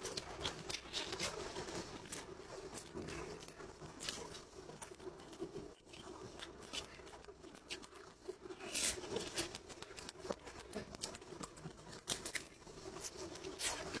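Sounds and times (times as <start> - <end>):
person chewing with wet mouth sounds: 0.0 - 14.0.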